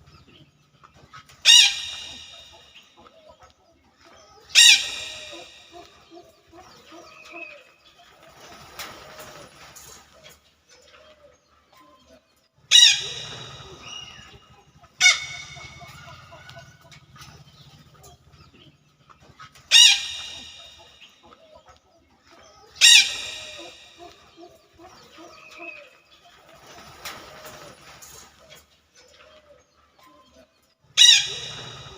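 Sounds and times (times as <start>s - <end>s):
soft bird calls: 0.0s - 31.9s.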